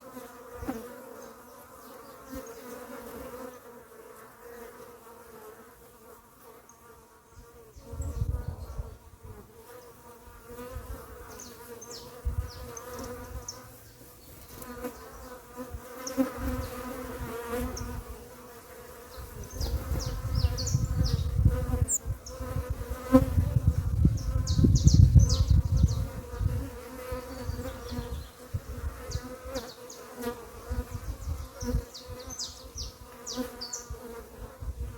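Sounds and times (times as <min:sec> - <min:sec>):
bees buzzing: 0:00.0 - 0:34.9.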